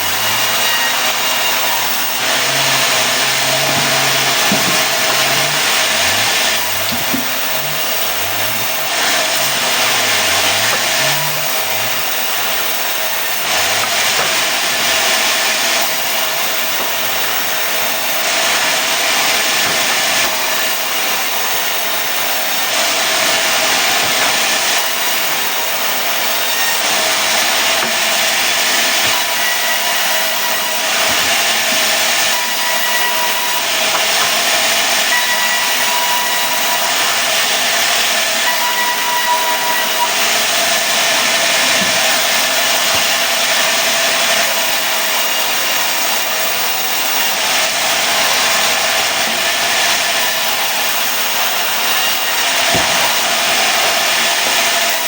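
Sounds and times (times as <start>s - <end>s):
saw blade hissing through wood: 0.0s - 45.3s
faint saw whine: 0.0s - 55.0s.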